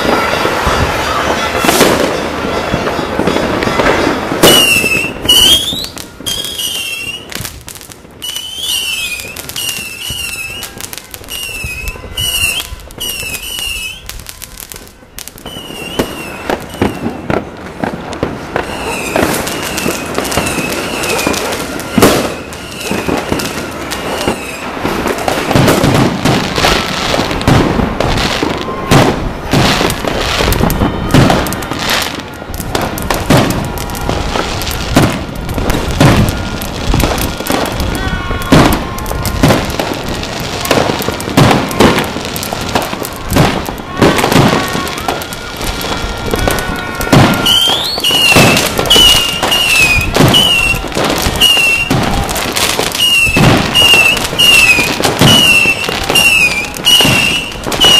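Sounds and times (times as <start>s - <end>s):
fireworks and firecrackers banging: 0.0s - 57.9s.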